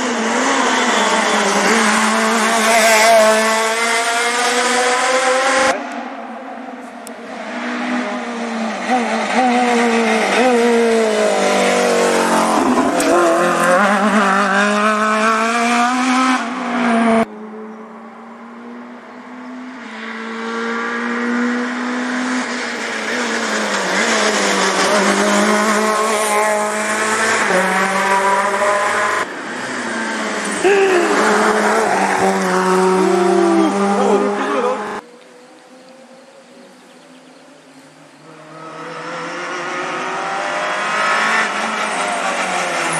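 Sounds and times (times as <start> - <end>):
rally car engines revving: 0.0 - 36.9, 37.6 - 42.9.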